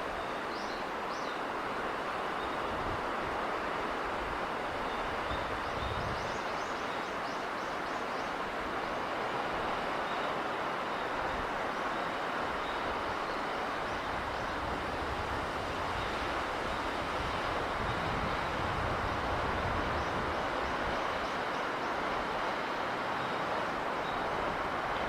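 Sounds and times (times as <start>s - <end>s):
sea wind and surf rushing: 0.0s - 25.0s.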